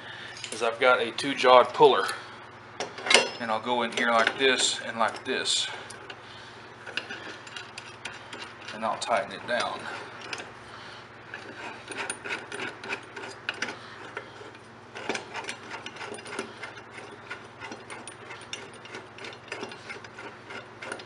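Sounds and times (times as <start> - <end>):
metallic clicks and scraping: 2.8 - 6.2, 6.8 - 10.6, 11.3 - 21.0.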